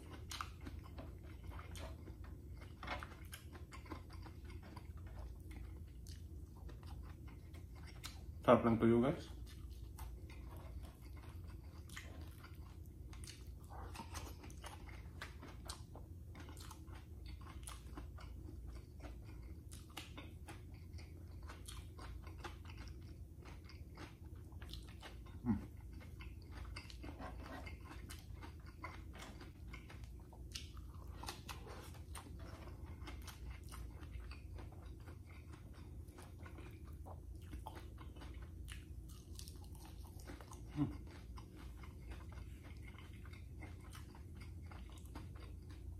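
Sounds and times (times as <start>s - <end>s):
person chewing crunchy food: 0.0s - 45.9s
steady low hum: 0.0s - 45.9s.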